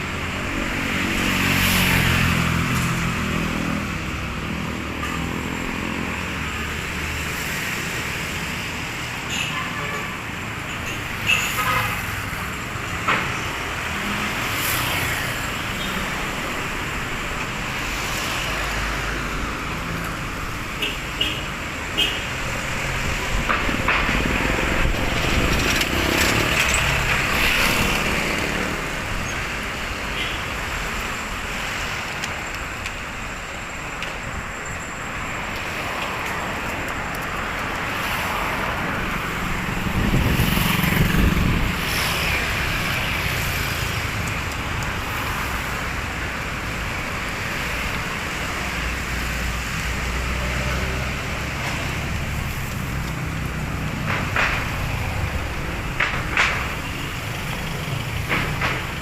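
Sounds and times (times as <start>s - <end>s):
city traffic passing: 0.0s - 59.0s.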